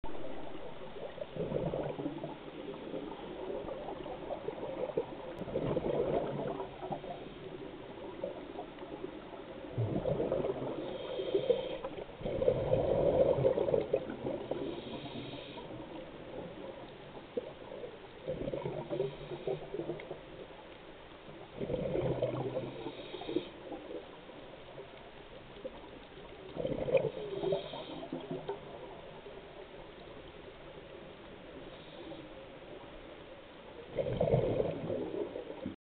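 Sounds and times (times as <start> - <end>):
exhaled bubbles underwater: 0.0 - 20.4, 21.4 - 25.0, 25.6 - 29.6, 33.8 - 35.8.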